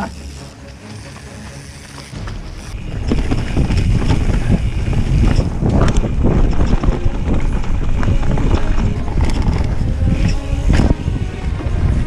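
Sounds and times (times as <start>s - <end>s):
bike rattling and knocking: 1.0s - 12.0s
wind rumbling on microphone: 2.2s - 12.0s.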